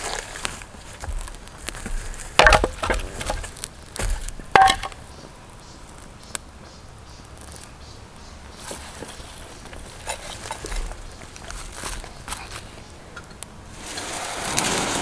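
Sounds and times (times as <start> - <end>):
dry wood cracking: 0.0 - 15.0.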